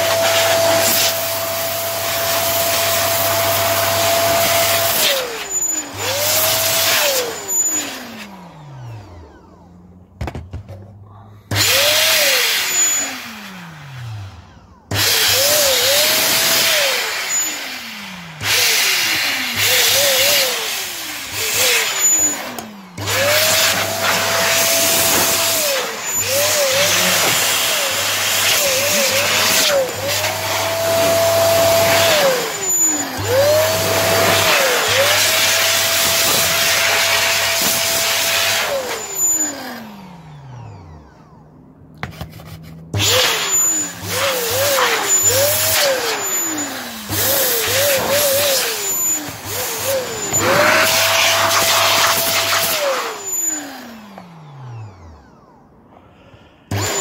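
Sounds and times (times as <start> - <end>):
electric air duster blowing: 0.0 - 9.7, 11.5 - 41.0, 42.9 - 55.2, 56.2 - 57.0.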